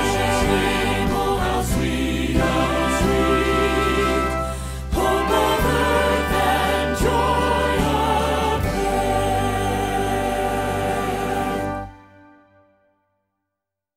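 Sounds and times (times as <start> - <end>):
choir singing a hymn: 0.0 - 12.2
instrumental accompaniment: 0.0 - 12.8.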